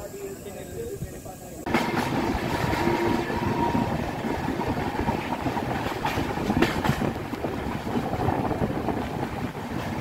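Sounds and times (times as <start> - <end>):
train wheels rumbling: 0.0 - 10.0
wind rushing over microphone: 1.9 - 10.0.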